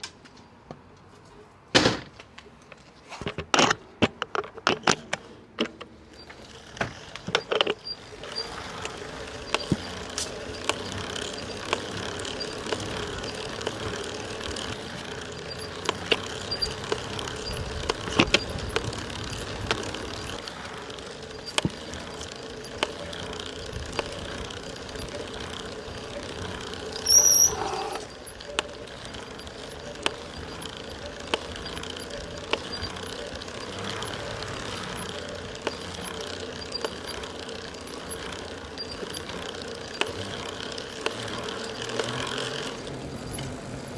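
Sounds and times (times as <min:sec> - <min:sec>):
crank knocking: 0:03.2 - 0:43.6
electric bike motor humming: 0:05.0 - 0:43.9
sharp clicks: 0:07.1 - 0:42.5.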